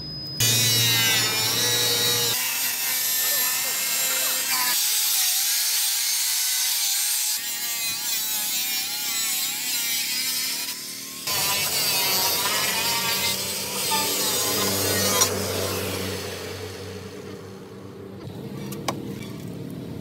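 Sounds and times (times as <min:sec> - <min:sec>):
angle grinder cutting metal: 0:00.4 - 0:18.2.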